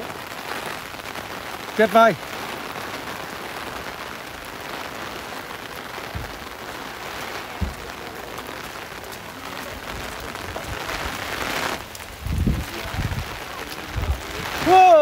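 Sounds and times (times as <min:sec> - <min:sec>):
heavy rain on stone paving: 0:00.0 - 0:15.0.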